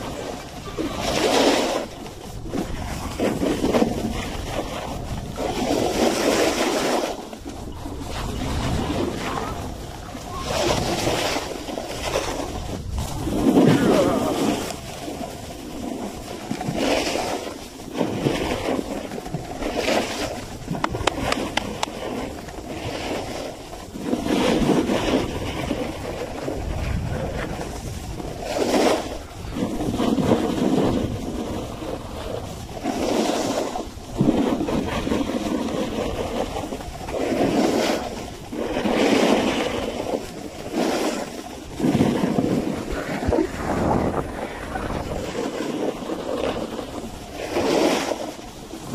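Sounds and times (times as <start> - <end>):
snowboard carving over snow: 0.0 - 48.9
wind on microphone: 0.0 - 48.9.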